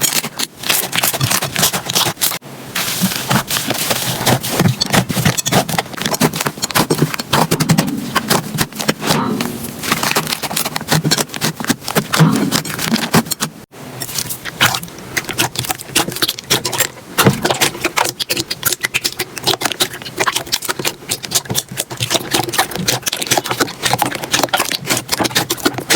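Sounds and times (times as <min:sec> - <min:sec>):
slime crackling and popping: 0:00.0 - 0:09.1, 0:14.0 - 0:25.9.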